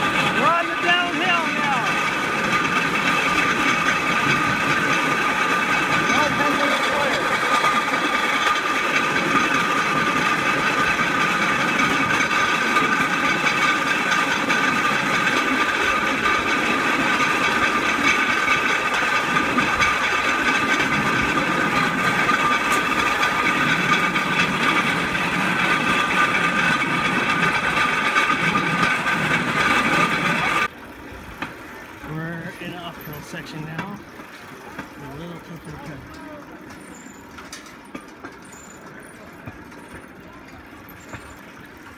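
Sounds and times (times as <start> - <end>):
rail bike wheels humming on rails: 0.0 - 41.9.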